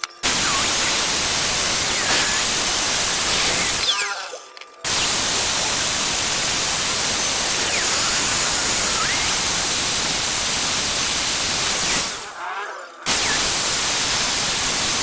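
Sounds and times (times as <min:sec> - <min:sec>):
static hiss: 0:00.2 - 0:12.4, 0:13.1 - 0:15.0.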